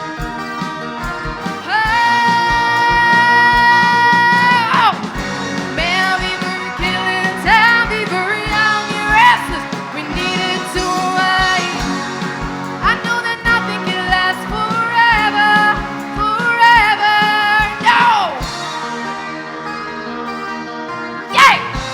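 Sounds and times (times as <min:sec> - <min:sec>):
rock music: 0:00.0 - 0:21.9.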